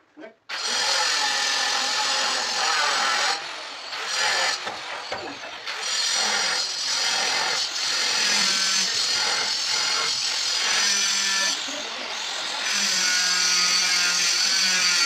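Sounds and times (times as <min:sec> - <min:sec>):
electric power tool running: 0:00.5 - 0:15.0.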